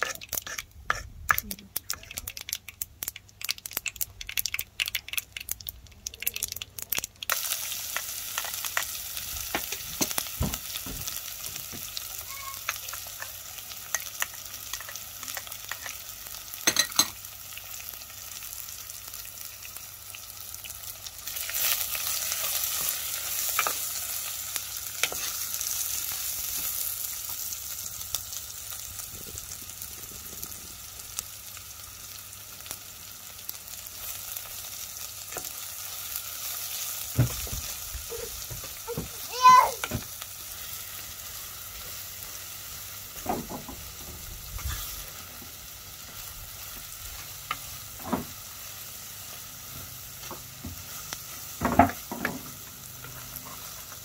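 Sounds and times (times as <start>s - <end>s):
onions sizzling in pot: 0.0s - 54.0s
seeds popping in hot oil: 0.0s - 54.0s.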